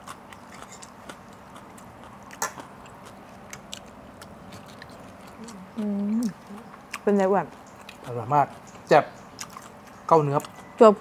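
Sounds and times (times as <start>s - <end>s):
chewing and biting food: 0.0s - 10.8s.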